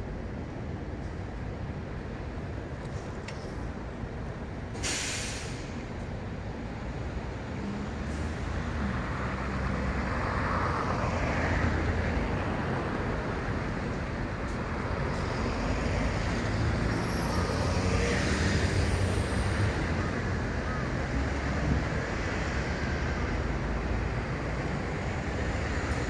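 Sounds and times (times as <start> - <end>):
road traffic rumble: 0.0 - 26.0
tyre and road noise: 0.0 - 26.0.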